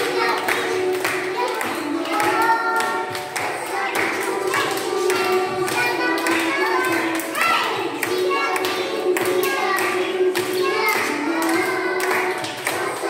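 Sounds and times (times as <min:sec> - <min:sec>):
children clapping in time: 0:00.0 - 0:13.0
children's song with singing: 0:00.0 - 0:13.0.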